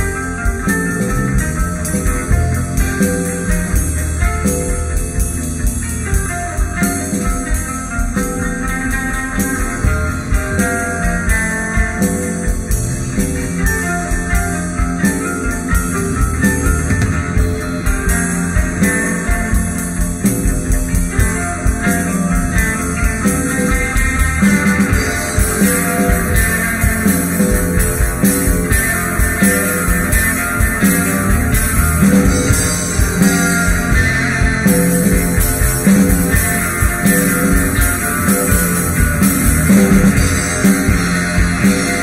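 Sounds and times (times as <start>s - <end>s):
bass guitar: 0.0s - 42.0s
drum kit beat: 0.0s - 42.0s
guitar: 0.0s - 42.0s.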